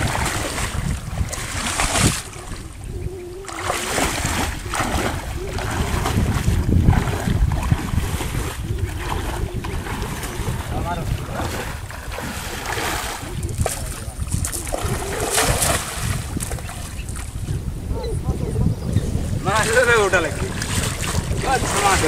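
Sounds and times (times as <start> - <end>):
pond water washing around wading man: 0.0 - 18.0, 18.6 - 22.0
wind buffeting microphone: 0.0 - 22.0.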